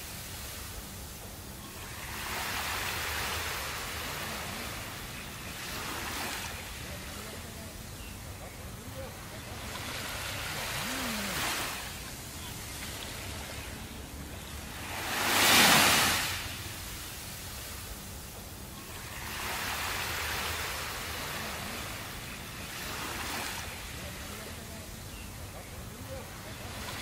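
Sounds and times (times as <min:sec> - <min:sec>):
waves washing onto sandy beach: 0:00.0 - 0:27.0.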